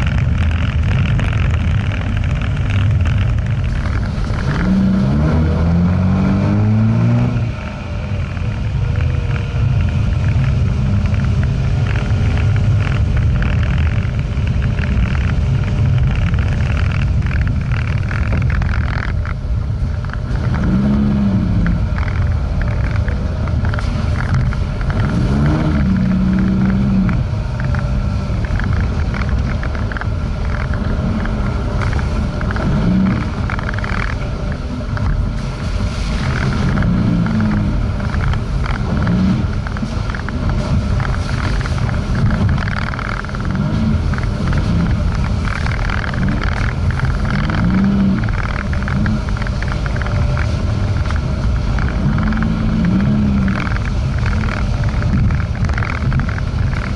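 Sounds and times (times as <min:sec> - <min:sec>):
car engine and tyres rumbling: 0:00.0 - 0:56.9.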